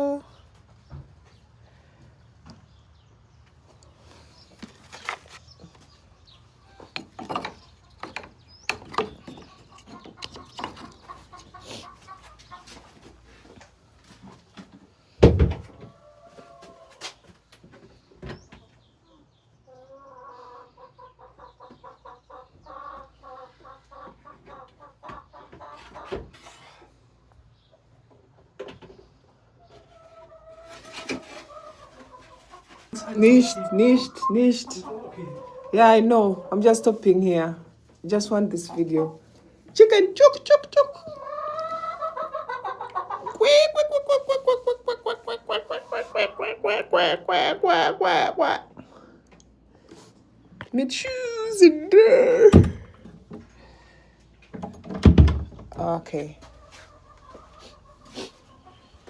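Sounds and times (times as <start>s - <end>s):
chickens clucking: 0.0s - 15.2s, 15.8s - 50.6s, 56.2s - 59.0s.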